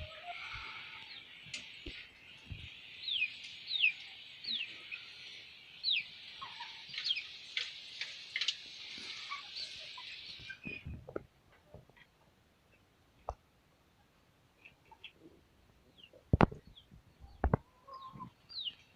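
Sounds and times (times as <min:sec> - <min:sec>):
chicks peeping: 0:00.0 - 0:11.0, 0:14.6 - 0:18.9.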